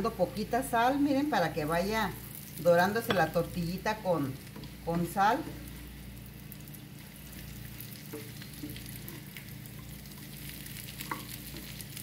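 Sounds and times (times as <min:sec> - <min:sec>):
tortilla pieces frying in oil: 0:01.0 - 0:12.0.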